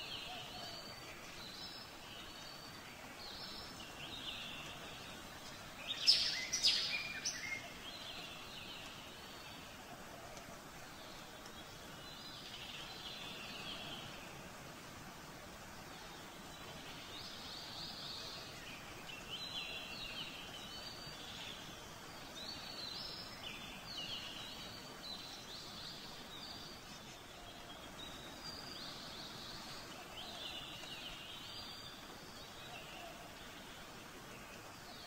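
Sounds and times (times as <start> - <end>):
birds chirping: 0.0 - 14.7, 15.6 - 35.0
steady background hiss: 0.0 - 35.0.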